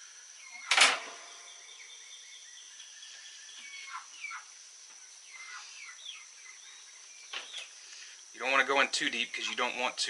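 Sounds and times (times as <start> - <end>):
small birds chirping: 0.3 - 0.7, 1.3 - 9.9.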